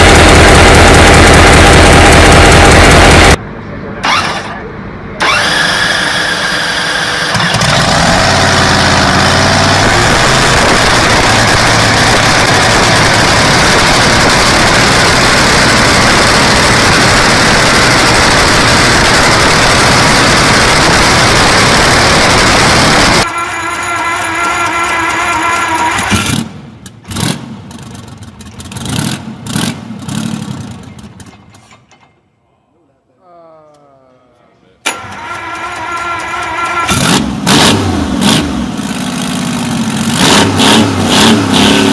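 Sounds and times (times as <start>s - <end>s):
engine starting and running: 0.0s - 32.2s, 34.8s - 41.9s.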